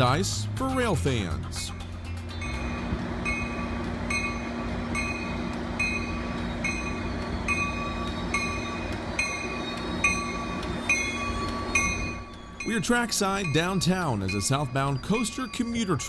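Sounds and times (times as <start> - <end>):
diesel train hum and rumble: 0.0 - 16.0
train bell ringing: 0.0 - 16.0.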